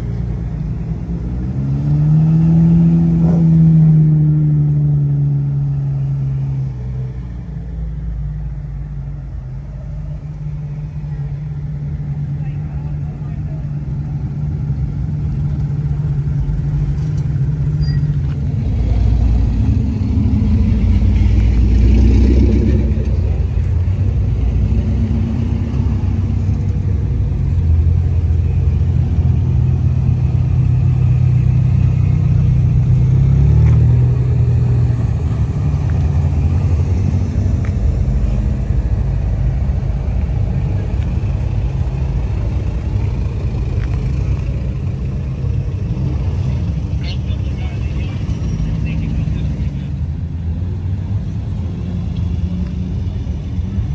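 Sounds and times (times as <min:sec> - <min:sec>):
car engine revving: 0:00.0 - 0:07.3, 0:13.6 - 0:53.9.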